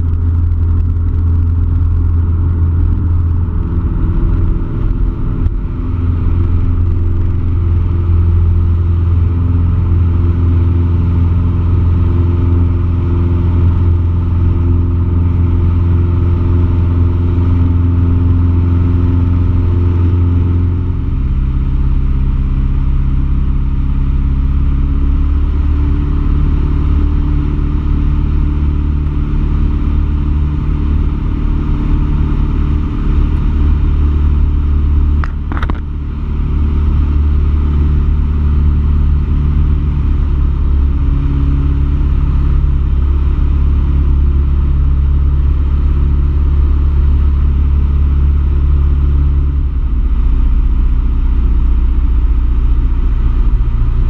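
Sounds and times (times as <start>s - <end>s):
light aircraft engine at full power: 0.0s - 54.0s.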